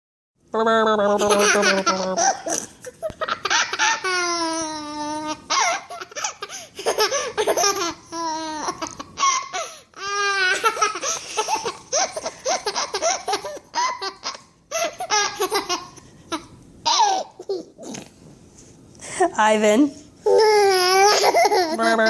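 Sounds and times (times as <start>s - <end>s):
baby laughing: 1.2s - 18.0s, 20.3s - 22.0s.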